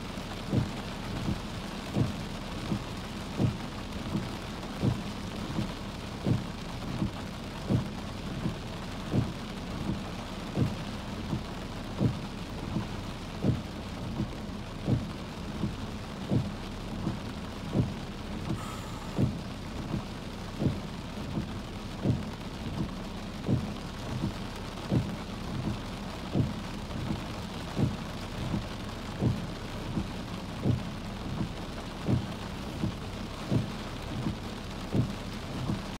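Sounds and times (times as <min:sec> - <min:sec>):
rain falling: 0:00.0 - 0:36.0
regular low thump: 0:00.4 - 0:36.0.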